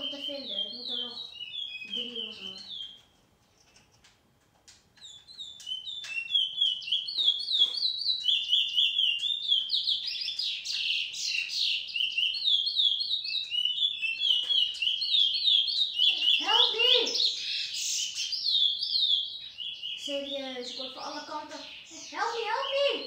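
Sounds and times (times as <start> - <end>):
finch singing chirps and warbles: 0.0 - 3.8, 5.0 - 23.0.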